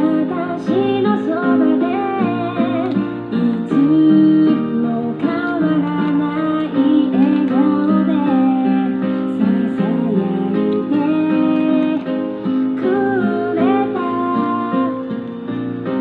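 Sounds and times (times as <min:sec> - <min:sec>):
song with plucked guitar: 0:00.0 - 0:16.0.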